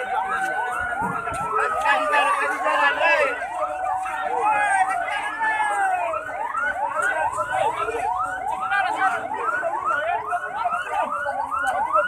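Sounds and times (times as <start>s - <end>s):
crowd voices: 0.0s - 12.0s
emergency sirens wailing: 0.0s - 12.0s.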